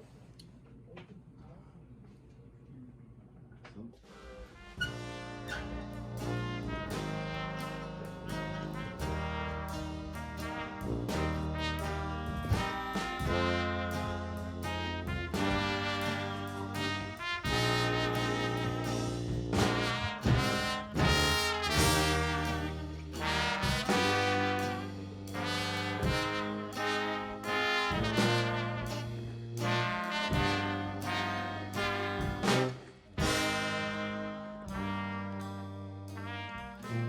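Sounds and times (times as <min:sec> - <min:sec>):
brass horns: 0:04.1 - 0:37.0
steady bass line: 0:04.8 - 0:37.0.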